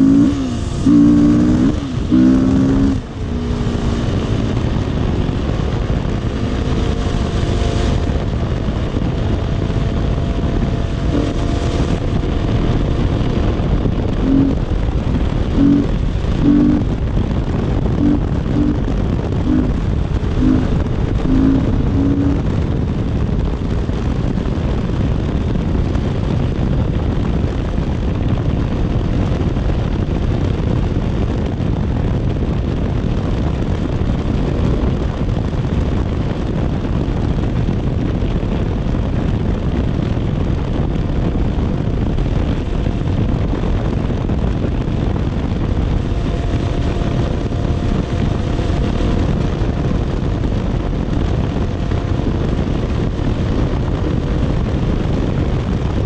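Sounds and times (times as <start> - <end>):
dirt bike engine running: 0.0 - 56.0
wind rush: 0.0 - 56.0.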